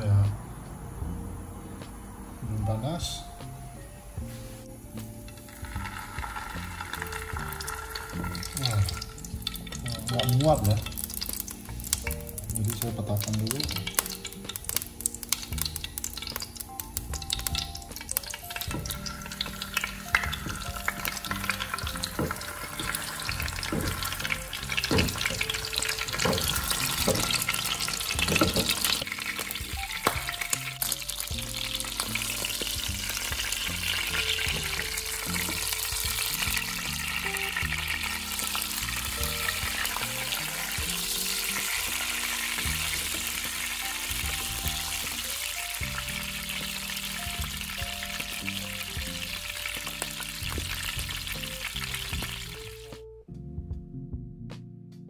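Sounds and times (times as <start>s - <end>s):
oil crackling pops: 5.0s - 53.0s
fish frying in oil: 5.2s - 52.9s.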